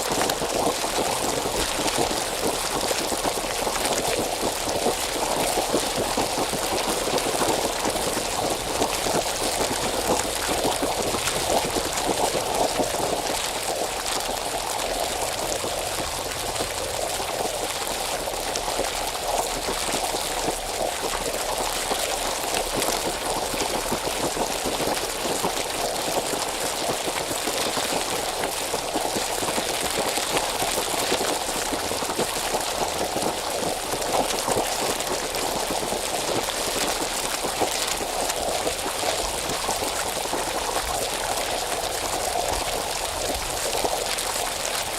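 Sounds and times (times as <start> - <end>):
water bubbling: 0.0 - 44.9.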